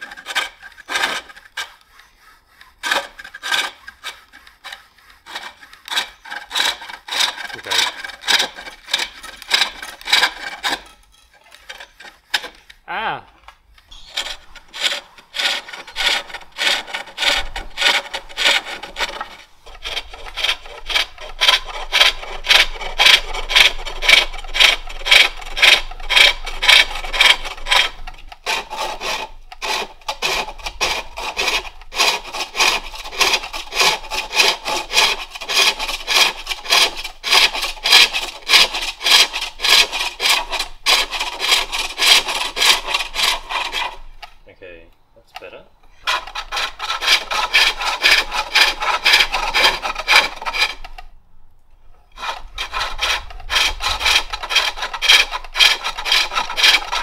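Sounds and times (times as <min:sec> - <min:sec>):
lathe tool rasping on wood: 0:00.0 - 0:11.0, 0:13.9 - 0:44.0, 0:46.0 - 0:50.9, 0:52.2 - 0:57.0.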